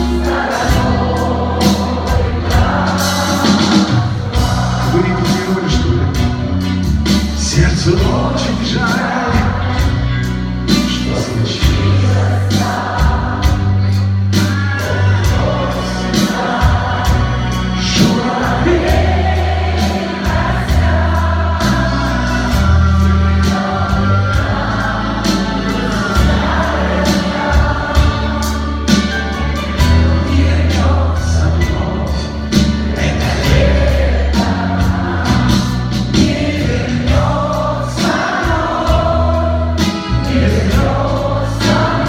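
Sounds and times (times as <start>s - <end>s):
voices singing together: 0.0s - 6.0s, 7.4s - 42.0s
deep bass notes: 0.0s - 42.0s.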